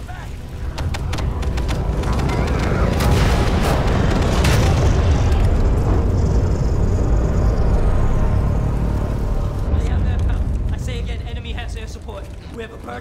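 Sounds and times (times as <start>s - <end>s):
explosion blasts: 0.4s - 11.6s
deep heavy rumble: 0.4s - 12.8s.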